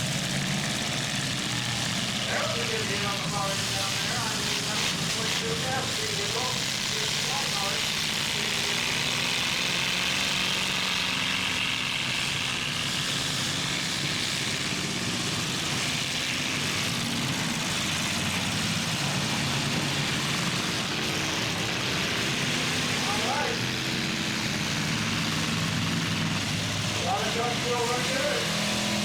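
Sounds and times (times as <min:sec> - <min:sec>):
truck engines revving: 0:00.0 - 0:29.0.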